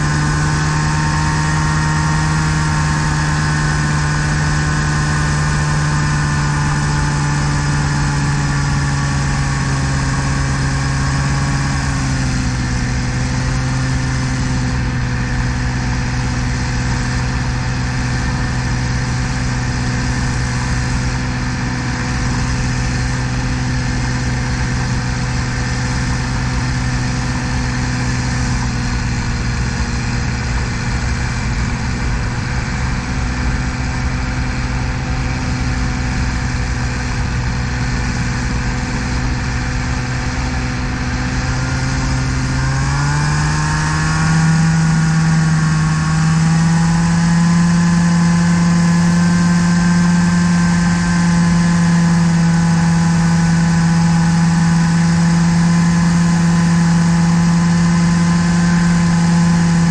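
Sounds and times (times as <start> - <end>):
ultralight engine running: 0.0 - 59.9.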